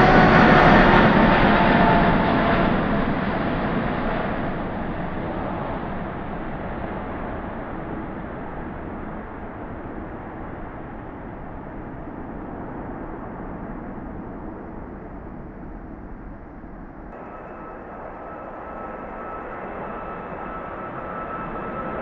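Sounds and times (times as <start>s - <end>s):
jet engines climbing: 0.0s - 22.0s.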